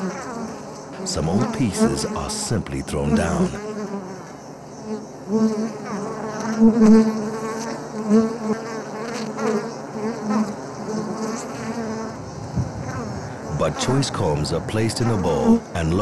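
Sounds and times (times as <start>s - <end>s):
swarm of bees buzzing: 0.0s - 16.0s.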